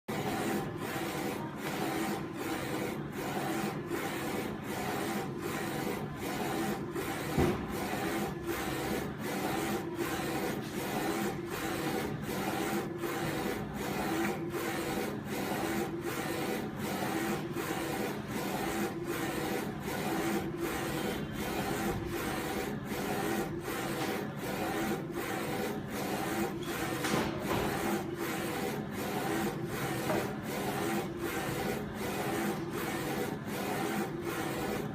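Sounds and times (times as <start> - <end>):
printer carriage running back and forth: 0.1 - 34.9.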